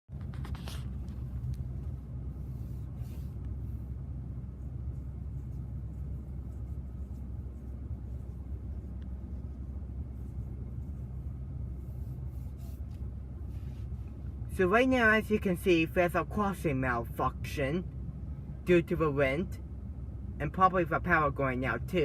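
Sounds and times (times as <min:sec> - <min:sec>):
vehicle idling rumble: 0:00.1 - 0:22.0.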